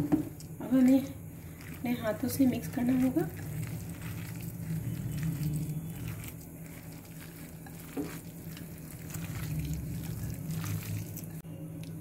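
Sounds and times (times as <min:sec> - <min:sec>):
hands mixing wet batter: 0:00.0 - 0:11.4
low hum: 0:00.0 - 0:12.0.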